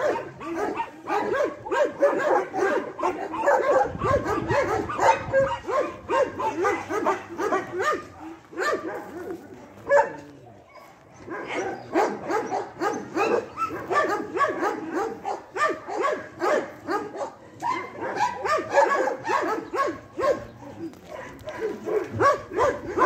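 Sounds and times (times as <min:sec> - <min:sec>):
dogs barking and yipping: 0:00.0 - 0:23.0.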